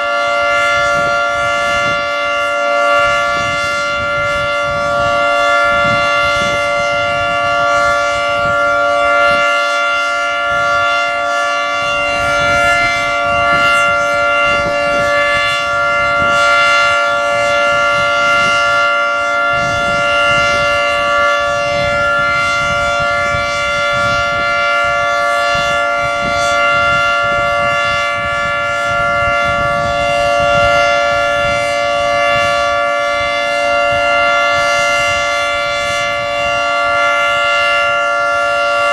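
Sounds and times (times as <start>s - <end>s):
warning siren chord: 0.0s - 38.9s.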